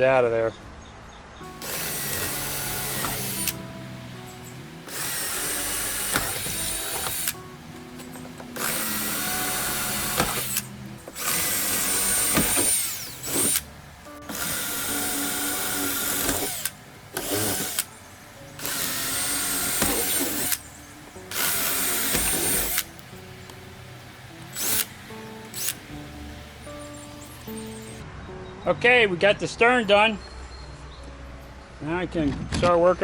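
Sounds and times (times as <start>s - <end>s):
power drill whining: 1.4s - 28.0s.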